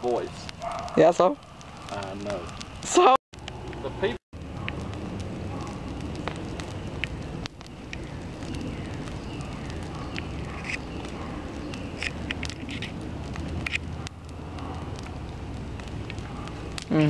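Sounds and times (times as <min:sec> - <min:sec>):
fire crackling and popping: 0:00.0 - 0:17.0
low rush of fire: 0:00.0 - 0:17.0.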